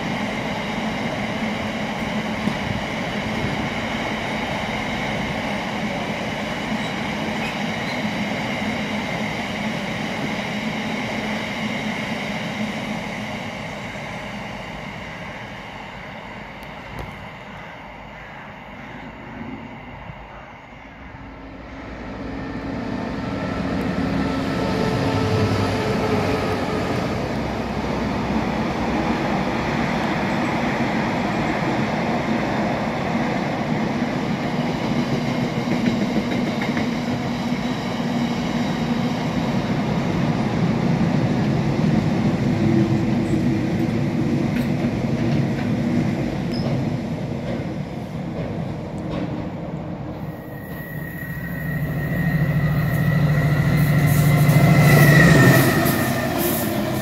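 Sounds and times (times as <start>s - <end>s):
freight train rolling by: 0.0s - 57.0s.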